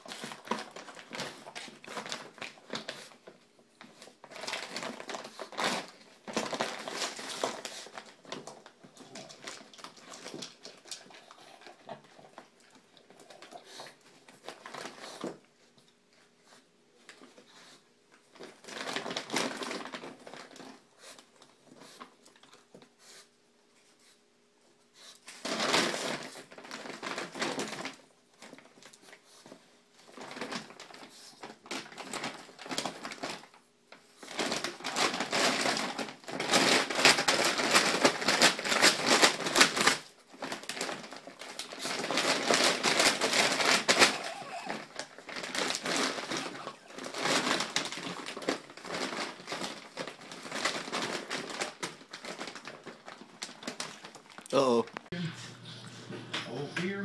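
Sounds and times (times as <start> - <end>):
plastic bag crinkling and rustling: 0.0 - 24.2, 25.0 - 57.0.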